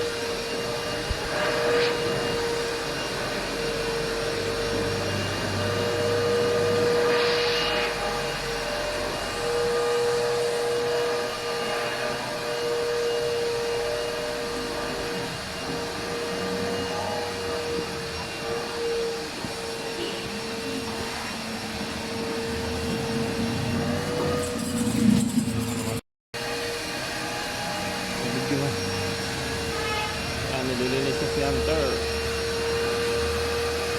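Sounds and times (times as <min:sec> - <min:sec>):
car wash machinery whine: 0:00.0 - 0:33.9.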